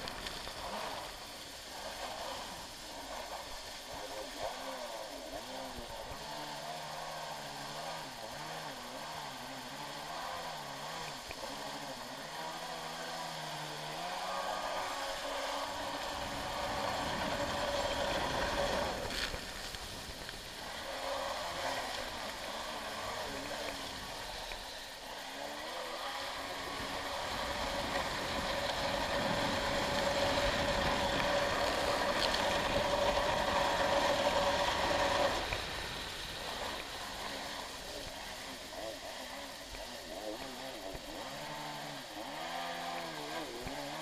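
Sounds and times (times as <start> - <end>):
water rushing against hull: 0.0 - 9.5, 12.8 - 42.2
jet ski engine running: 0.0 - 44.0.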